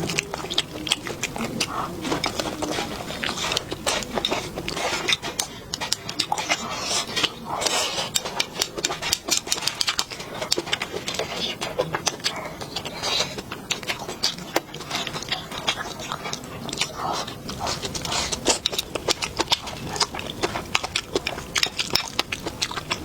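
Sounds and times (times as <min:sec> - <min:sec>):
person chewing wet mouth smacks: 0:00.0 - 0:23.0.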